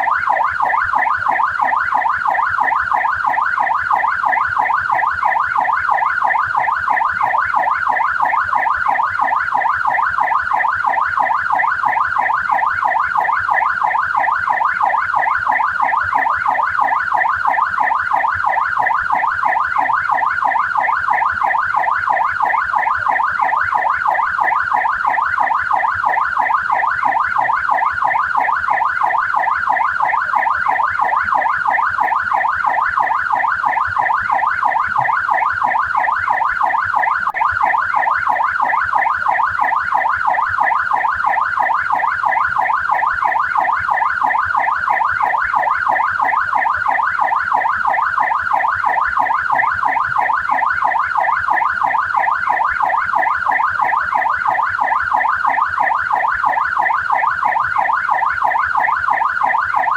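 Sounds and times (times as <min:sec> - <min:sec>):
police siren yelping: 0:00.0 - 0:59.9.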